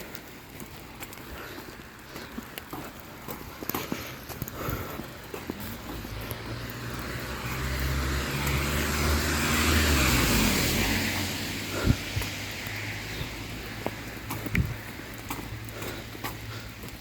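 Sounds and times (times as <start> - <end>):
car passing on wet road: 0.0 - 17.0
footsteps: 0.0 - 17.0.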